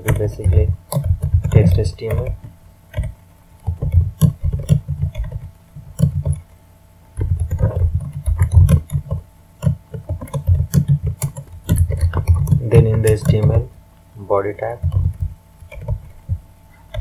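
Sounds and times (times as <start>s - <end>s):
keyboard typing: 0.0s - 13.7s, 14.7s - 17.0s.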